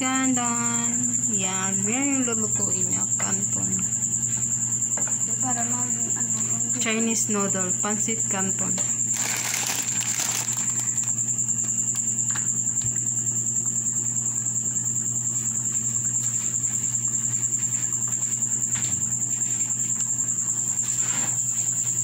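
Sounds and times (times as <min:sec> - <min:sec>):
cricket chirping trill: 0:00.0 - 0:22.0
low electrical hum: 0:00.0 - 0:22.0.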